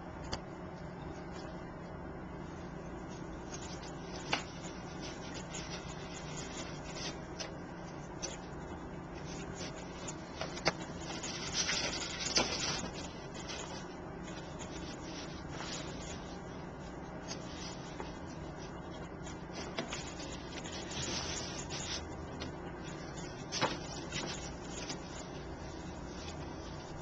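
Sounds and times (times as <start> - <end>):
steady low hum: 0.0 - 27.0
card rustling: 3.4 - 27.0.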